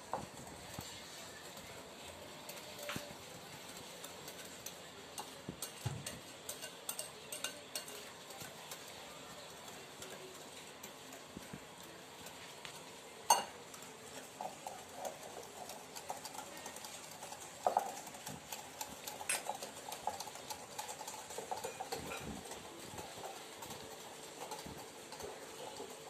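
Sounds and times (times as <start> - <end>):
whisk scraping a glass bowl: 0.6 - 11.2, 13.3 - 26.0.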